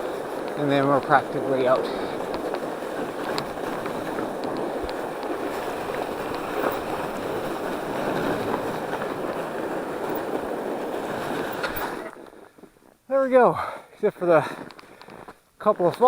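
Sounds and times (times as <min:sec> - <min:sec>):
bike tyres rushing on snow: 0:00.0 - 0:16.0.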